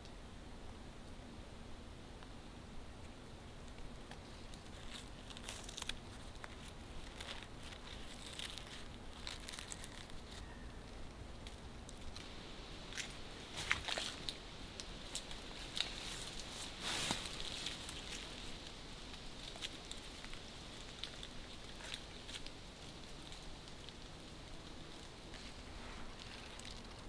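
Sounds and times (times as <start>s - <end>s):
light crackles and clicks: 3.0s - 12.3s, 12.9s - 27.0s
cord rubbing and crinkling: 3.6s - 27.0s.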